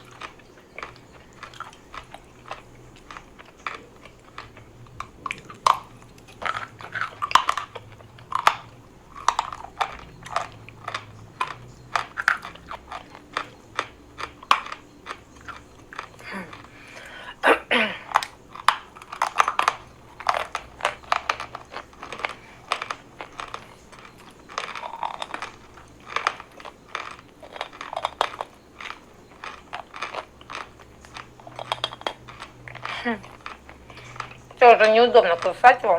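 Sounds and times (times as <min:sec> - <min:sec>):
person chewing chalk: 0:00.0 - 0:35.9.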